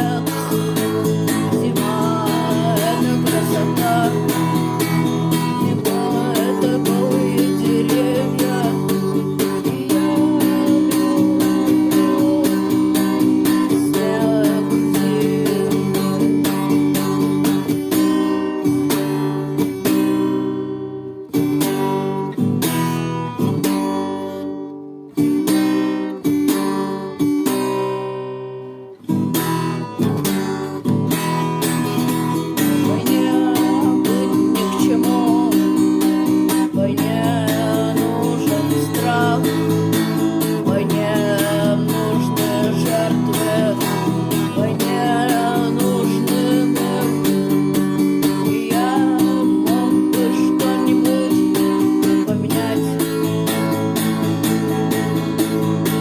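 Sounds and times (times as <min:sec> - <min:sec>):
instrumental rock music: 0:00.0 - 0:56.0.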